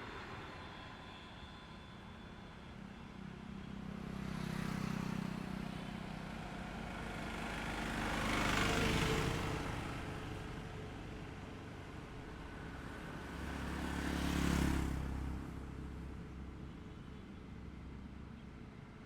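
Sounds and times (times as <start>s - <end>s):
vehicles passing on highway: 2.7s - 19.0s.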